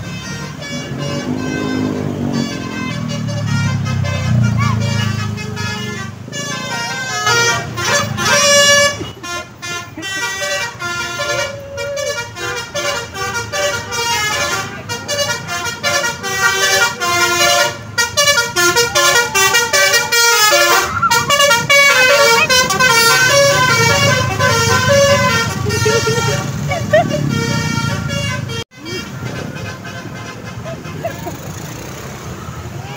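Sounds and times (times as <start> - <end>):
bus musical horn melody: 0.0 - 31.6
engine and traffic noise: 0.0 - 32.9.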